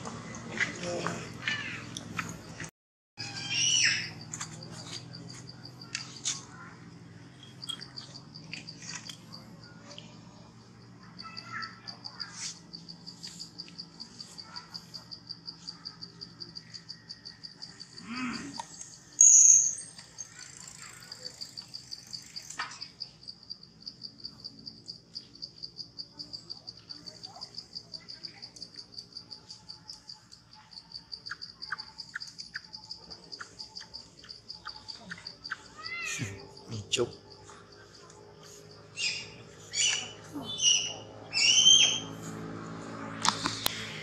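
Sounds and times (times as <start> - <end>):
insects pulsing chorus: 0.2 - 44.0.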